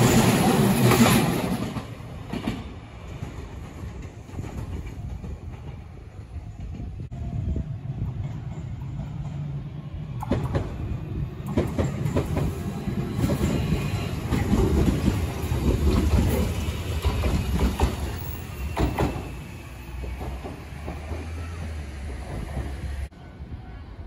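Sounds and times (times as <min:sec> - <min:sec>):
wheels clacking over rail joints: 0:00.0 - 0:07.1, 0:10.2 - 0:23.1
electric train passing: 0:00.0 - 0:24.0.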